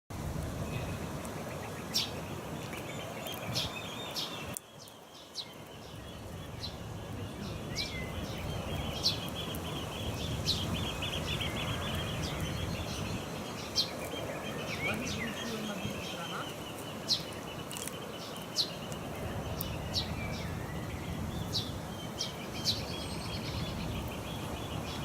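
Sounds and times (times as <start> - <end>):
songbirds chirping and twittering: 0.1 - 25.0.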